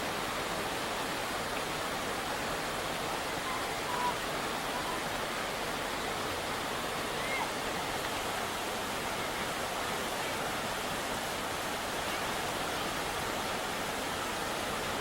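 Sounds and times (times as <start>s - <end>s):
river pouring over a weir: 0.0s - 15.0s.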